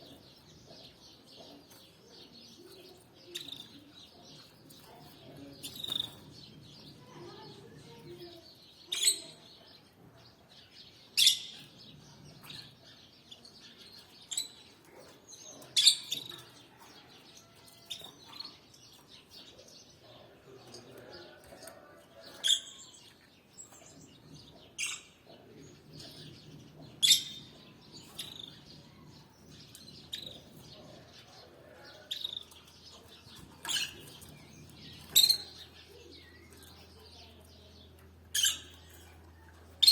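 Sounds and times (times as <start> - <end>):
canaries chirping: 0.0 - 39.9.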